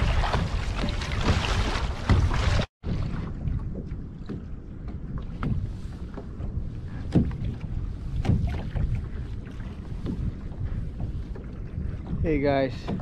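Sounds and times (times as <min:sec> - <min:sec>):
water slapping against kayak hull: 0:00.0 - 0:13.0
wind buffeting microphone: 0:00.0 - 0:13.0.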